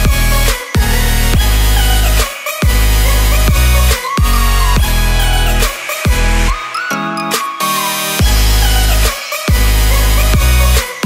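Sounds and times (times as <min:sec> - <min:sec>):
dubstep dance music: 0:00.0 - 0:11.0.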